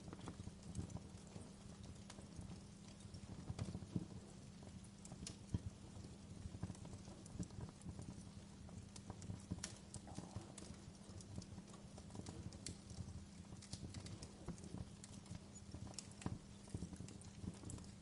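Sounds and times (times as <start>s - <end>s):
wood fire crackling faintly: 0.0s - 18.0s.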